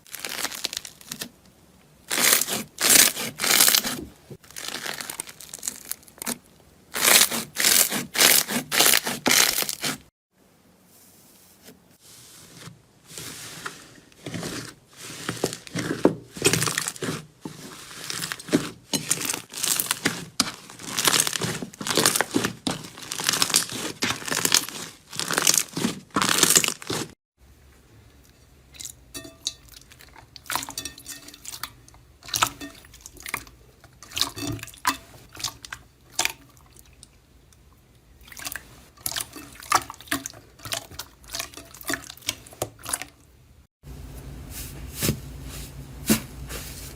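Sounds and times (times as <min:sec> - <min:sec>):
slime squishing with wet crackles: 0:00.0 - 0:10.0, 0:14.1 - 0:27.2, 0:28.1 - 0:43.4.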